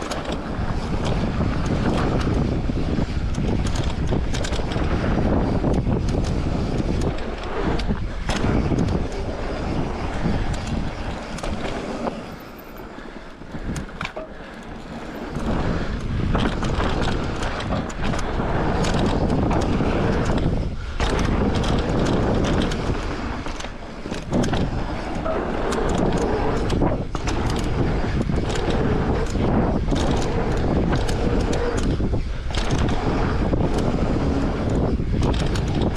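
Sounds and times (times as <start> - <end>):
bike rattling and knocking: 0.0 - 35.9
tyre and wind rush: 0.0 - 35.9.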